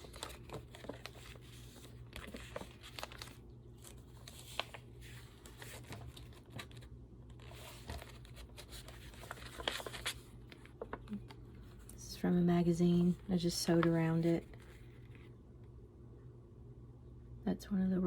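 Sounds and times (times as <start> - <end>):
paper rustling and crinkling: 0.0 - 12.1, 12.9 - 15.3.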